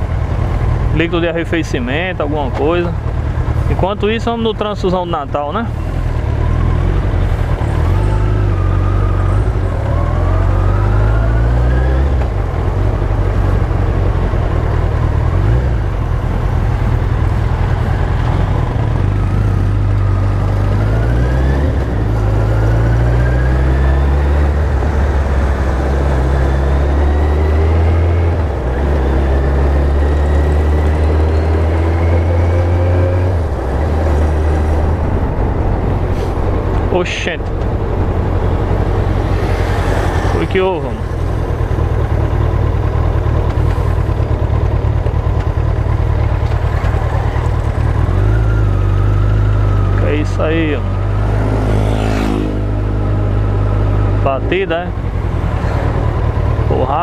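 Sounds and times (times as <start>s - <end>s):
motorcycle engine accelerating: 5.7s - 57.0s.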